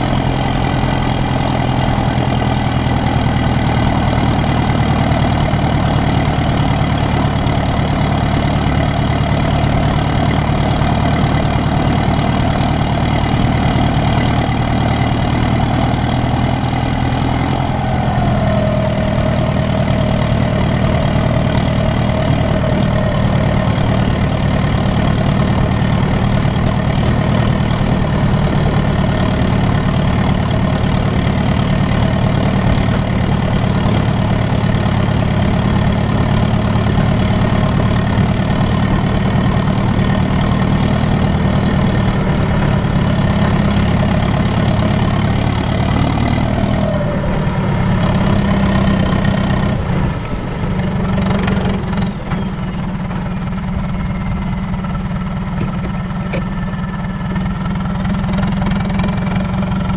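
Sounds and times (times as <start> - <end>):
high engine whine: 0.0 - 59.9
tractor diesel engine running: 0.0 - 59.9.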